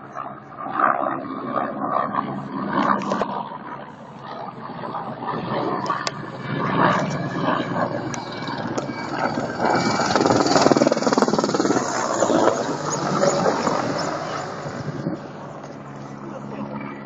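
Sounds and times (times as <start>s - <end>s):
helicopters flying past: 0.0s - 17.0s.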